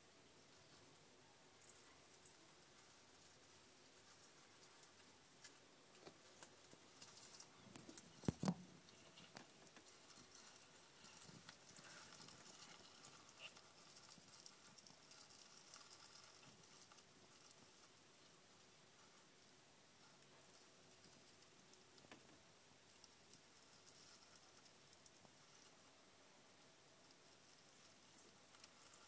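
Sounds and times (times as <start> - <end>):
faint rustles: 0.4 - 29.0.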